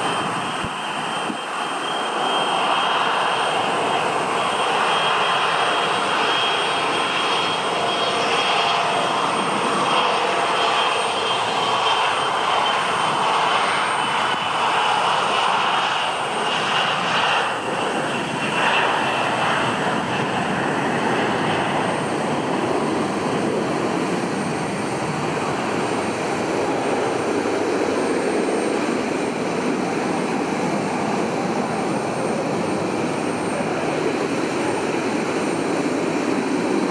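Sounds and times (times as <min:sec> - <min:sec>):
jet airliner taking off: 0:00.0 - 0:36.9.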